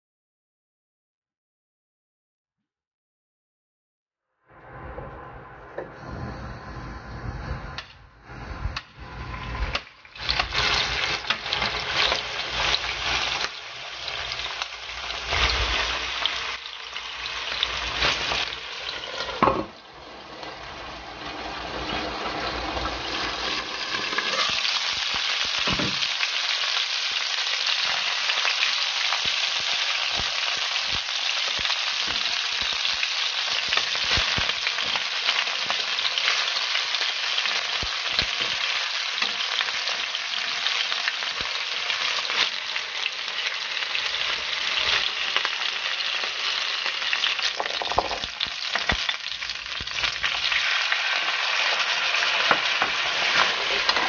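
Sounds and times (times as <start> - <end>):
chicken sizzling in hot oil: 8.4 - 54.0.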